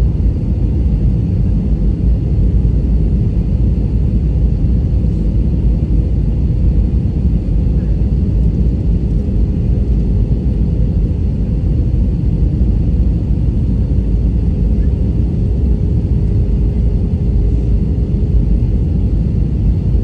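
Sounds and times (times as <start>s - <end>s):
jet cabin engine roar: 0.0s - 20.0s.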